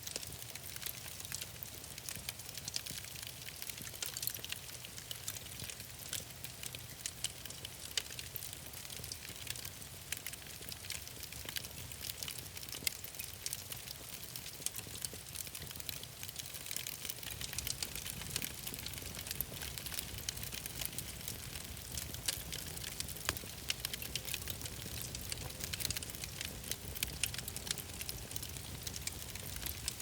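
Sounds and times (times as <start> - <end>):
fire crackling in a fireplace: 0.0 - 30.0.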